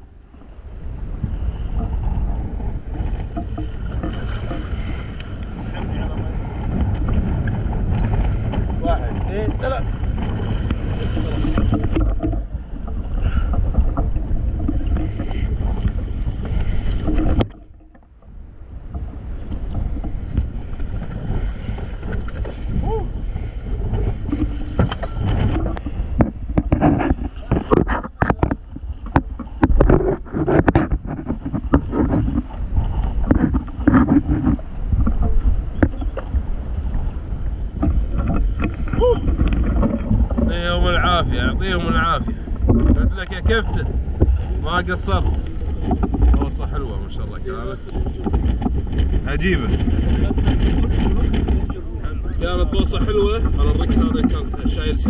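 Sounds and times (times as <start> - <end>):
boat engine rumble: 0.0 - 55.0
wind buffeting the microphone: 0.0 - 55.0.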